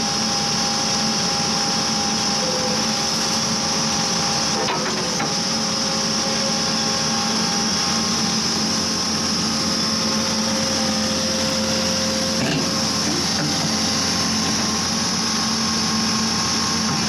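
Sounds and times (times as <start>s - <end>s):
drill rig diesel drone: 0.0s - 17.0s.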